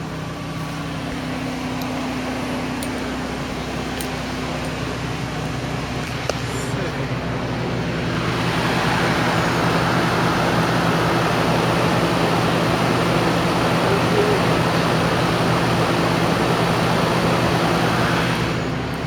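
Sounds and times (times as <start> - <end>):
air conditioner hum and rush: 0.0 - 19.0
generator running: 0.0 - 19.0.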